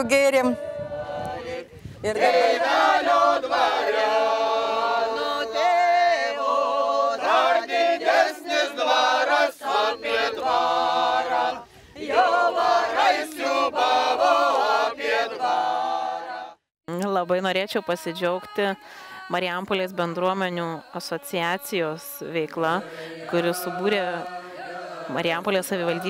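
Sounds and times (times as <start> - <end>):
group singing unaccompanied: 0.0 - 16.6, 17.2 - 26.0.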